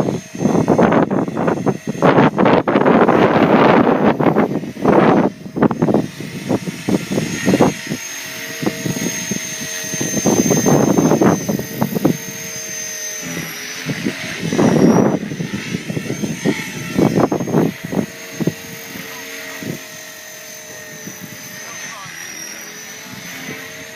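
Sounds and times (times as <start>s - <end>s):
wind buffeting microphone: 0.0s - 21.6s
model helicopter whine: 0.0s - 23.9s.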